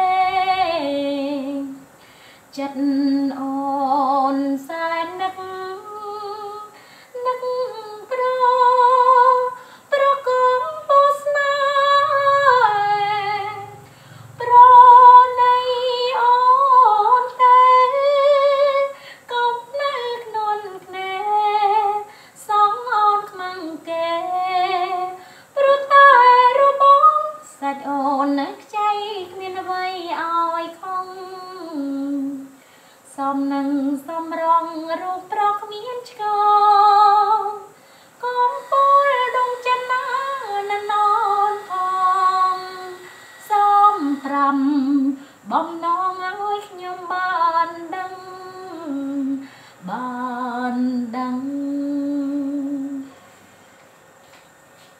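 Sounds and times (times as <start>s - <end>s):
woman singing unaccompanied: 0.0s - 53.2s.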